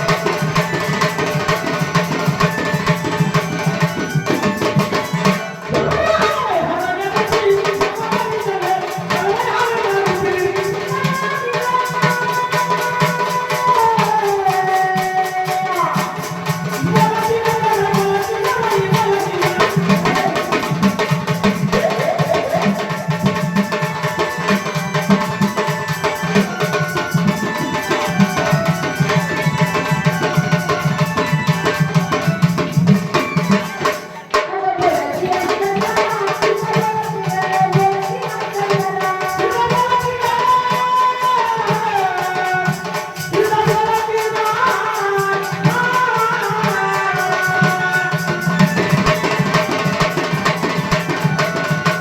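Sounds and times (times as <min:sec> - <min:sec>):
tabla and percussion: 0:00.0 - 0:52.0
woman singing: 0:04.3 - 0:31.9, 0:32.5 - 0:52.0.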